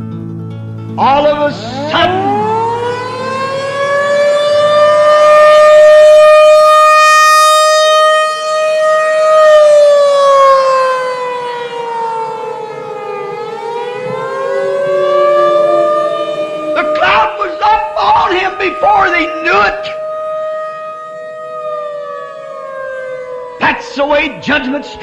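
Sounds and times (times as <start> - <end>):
warning siren wailing: 1.0 - 25.0.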